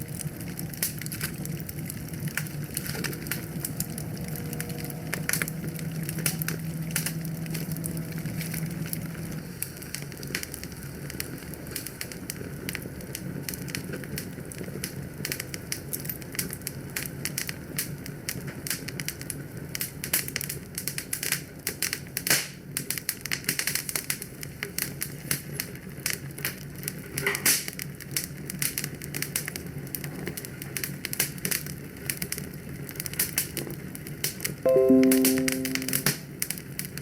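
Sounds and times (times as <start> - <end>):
fire crackling in a fireplace: 0.0 - 34.6.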